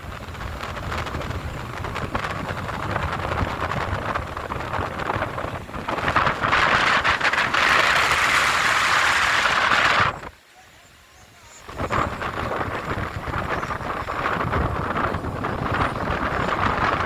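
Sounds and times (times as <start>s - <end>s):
strong wind buffeting microphone: 0.0s - 10.4s, 11.4s - 17.0s.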